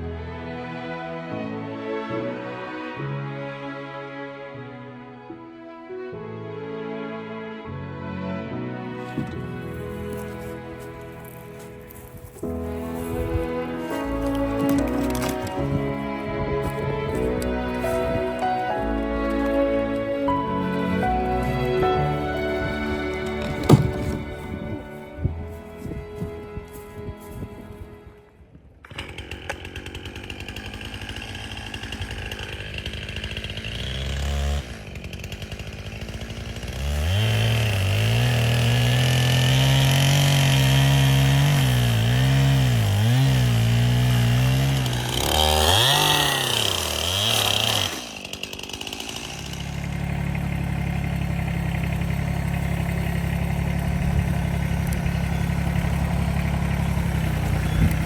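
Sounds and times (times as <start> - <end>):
small petrol engine under load: 9.0 - 27.9, 28.8 - 58.0.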